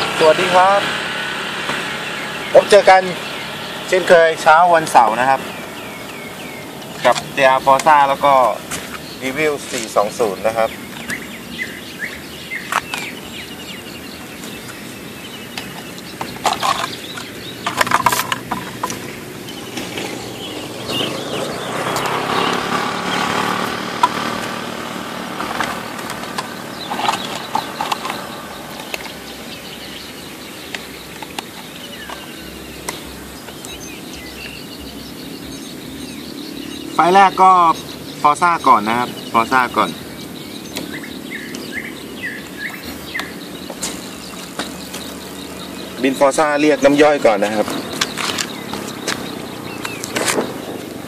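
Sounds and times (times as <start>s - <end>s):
engine passing: 0.0s - 51.0s
outdoor background noise: 0.0s - 51.0s.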